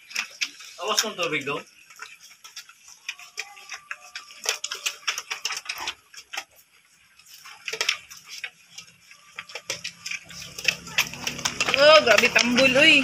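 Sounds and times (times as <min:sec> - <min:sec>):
puppies crunching kibble: 0:00.0 - 0:13.0.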